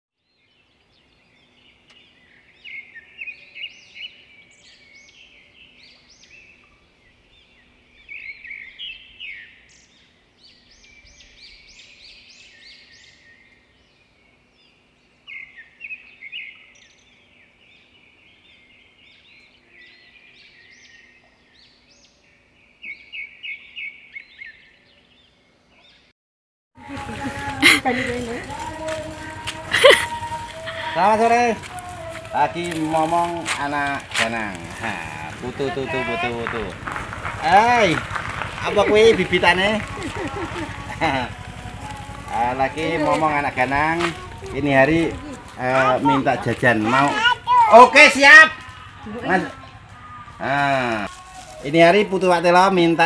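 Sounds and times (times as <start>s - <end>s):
small birds chirping and singing: 0.2s - 26.1s, 26.8s - 53.0s.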